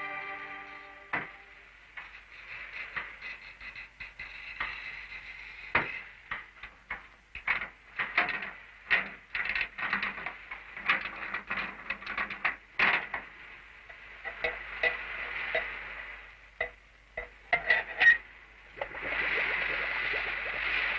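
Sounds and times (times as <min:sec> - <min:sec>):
film soundtrack hiss: 0:00.0 - 0:20.9.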